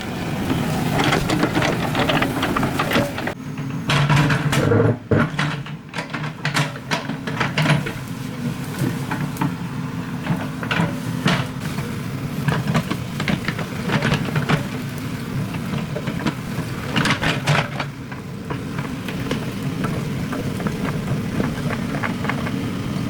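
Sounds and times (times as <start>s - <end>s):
excavator diesel engine running: 0.0s - 23.0s
metallic clanks and knocks: 1.0s - 9.6s, 10.2s - 22.7s.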